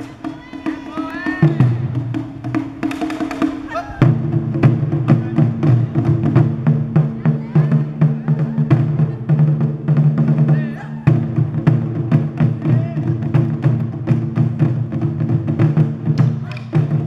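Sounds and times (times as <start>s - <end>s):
taiko drums booming: 0.0s - 17.0s.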